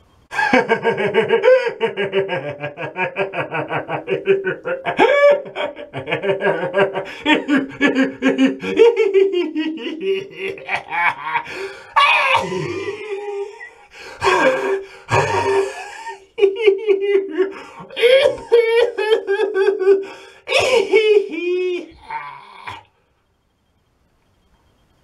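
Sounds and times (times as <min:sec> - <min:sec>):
man laughing hard: 0:00.3 - 0:22.8.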